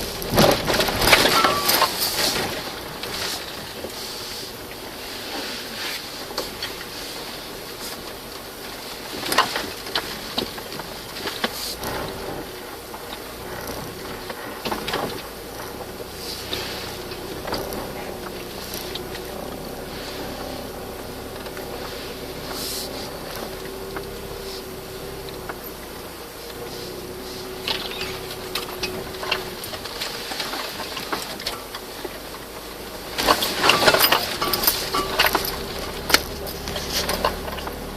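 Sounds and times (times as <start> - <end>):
knocks and rattles: 0.0 - 4.8, 9.1 - 37.9
vehicle driving on rough track: 0.0 - 37.9.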